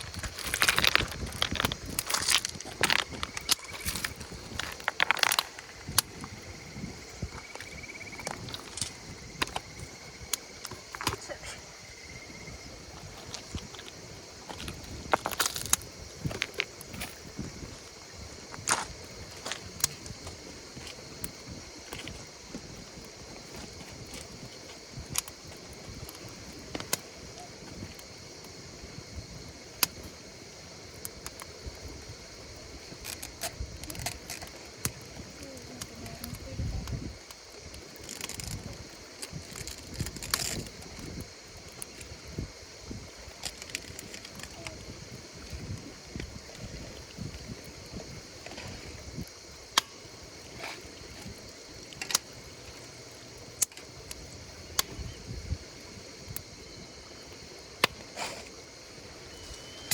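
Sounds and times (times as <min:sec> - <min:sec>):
insect pulsing trill: 0:00.0 - 0:29.6, 0:30.2 - 0:59.9
campfire crackling and popping: 0:00.0 - 0:59.9.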